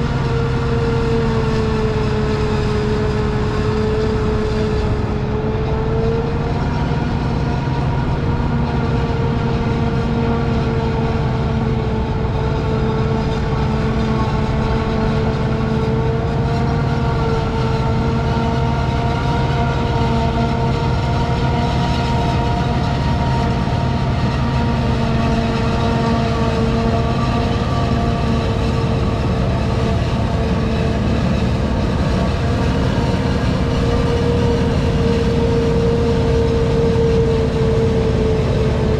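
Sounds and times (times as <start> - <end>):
constant high whine: 0.0 - 38.9
diesel engine drone: 0.0 - 38.9.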